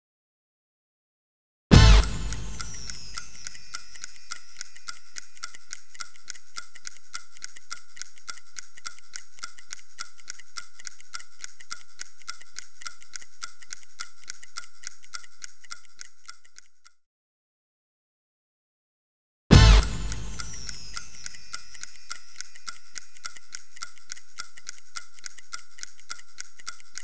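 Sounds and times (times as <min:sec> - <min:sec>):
rapid mechanical ticking: 0:01.7 - 0:17.0, 0:19.5 - 0:27.0.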